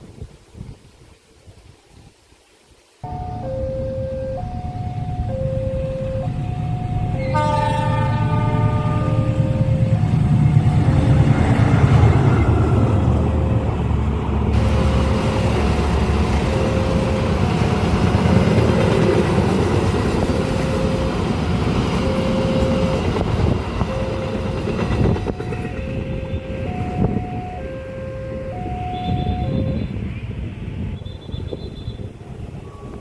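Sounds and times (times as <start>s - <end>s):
two-note crossing warning alarm: 3.0s - 30.1s, 31.0s - 33.0s
train passing fast: 3.1s - 30.7s.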